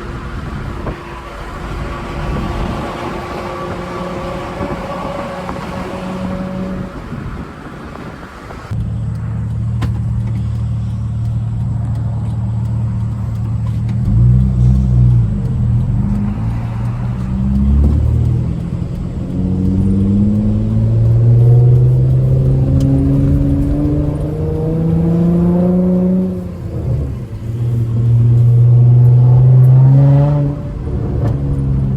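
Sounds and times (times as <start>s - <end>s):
car exhaust while driving: 0.0s - 31.9s.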